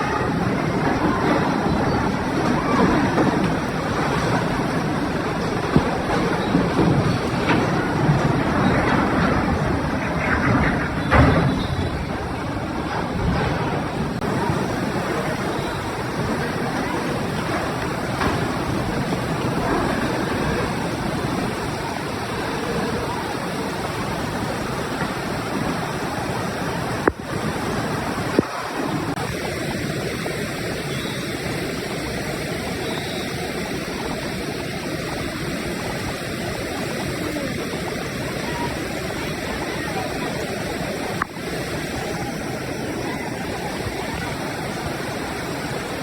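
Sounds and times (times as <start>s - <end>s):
river water rushing: 0.0s - 46.0s.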